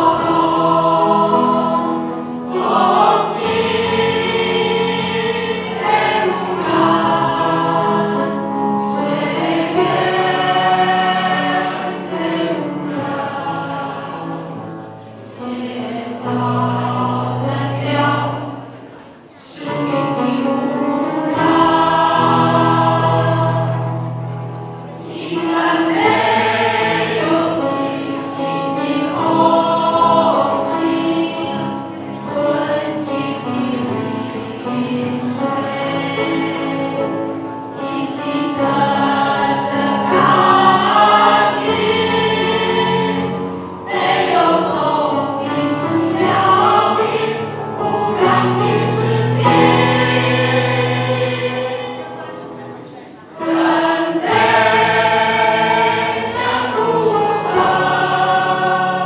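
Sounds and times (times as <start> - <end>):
choir singing: 0.0 - 59.0
piano accompaniment: 0.0 - 59.0.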